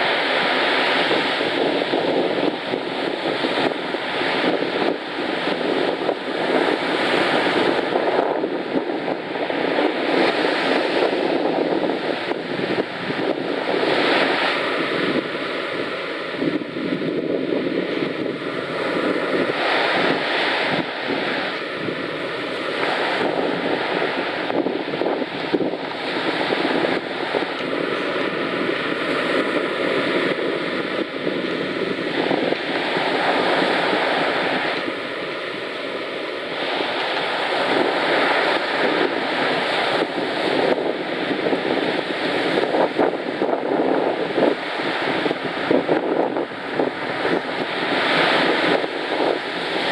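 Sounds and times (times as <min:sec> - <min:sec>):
surf washing on beach: 0:00.0 - 0:49.9
wind blowing on microphone: 0:00.0 - 0:49.9.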